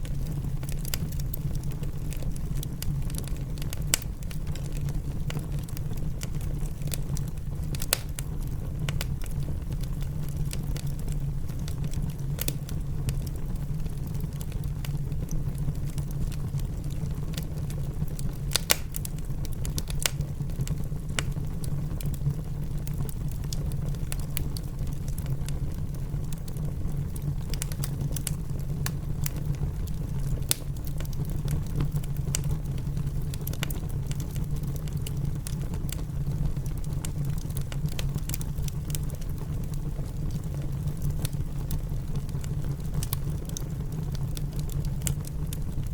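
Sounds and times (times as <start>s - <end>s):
low rumble of rain: 0.0s - 45.9s
wood fire crackling and popping: 0.0s - 45.9s.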